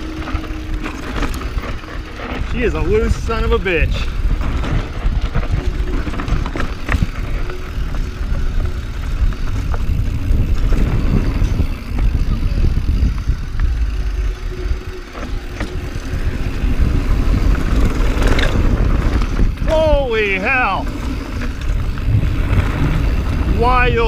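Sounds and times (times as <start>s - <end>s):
bike knocks and rattles: 0.0s - 24.0s
bike tyres on dirt and rock: 0.0s - 24.0s
wind buffeting microphone: 0.0s - 24.0s.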